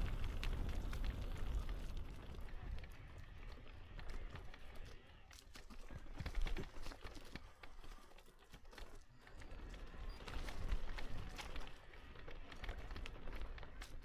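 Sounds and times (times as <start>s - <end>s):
crunching footsteps on trail: 0.0s - 14.0s.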